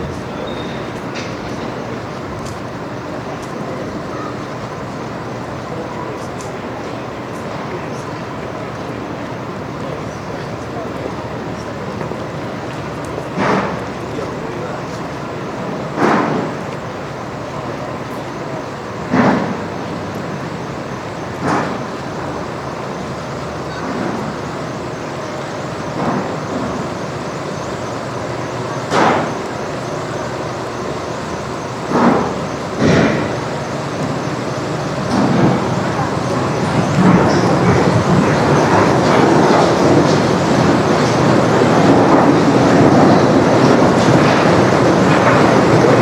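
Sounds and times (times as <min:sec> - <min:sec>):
buses passing: 0:00.0 - 0:46.0
passing voices: 0:00.0 - 0:46.0
traffic noise: 0:00.0 - 0:46.0.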